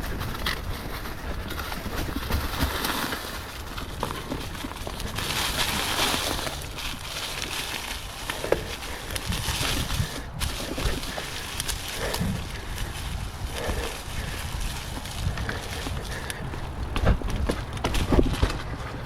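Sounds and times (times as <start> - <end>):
bike knocking and rattling: 0.0 - 19.0
bike tyres rumbling on dirt: 0.0 - 19.0.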